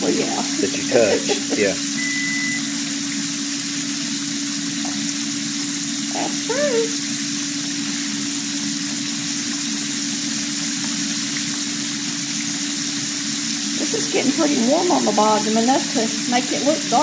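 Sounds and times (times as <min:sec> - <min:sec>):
food deep-frying in hot oil: 0:00.0 - 0:17.0.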